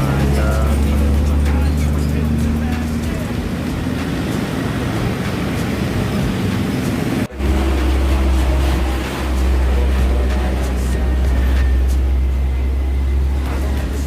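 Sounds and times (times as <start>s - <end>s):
diesel bus engine rumbling: 0.0s - 14.0s.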